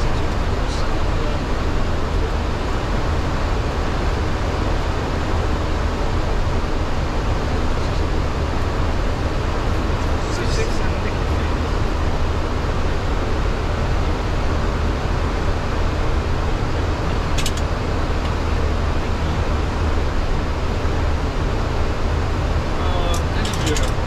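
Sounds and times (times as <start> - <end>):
aircraft engines rumbling: 0.0 - 24.0.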